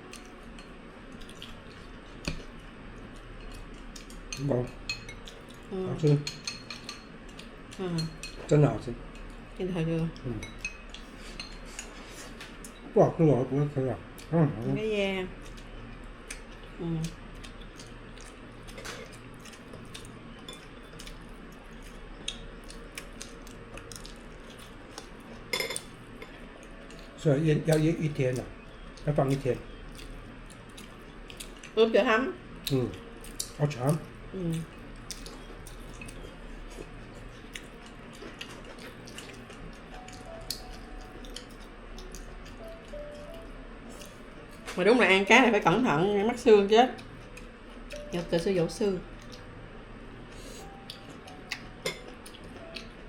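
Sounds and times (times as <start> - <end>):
faint background music: 0.0 - 53.0
steady low hum: 0.0 - 53.0
chewing: 1.1 - 12.8, 15.4 - 31.8, 32.6 - 44.7, 49.1 - 49.5, 50.6 - 53.0.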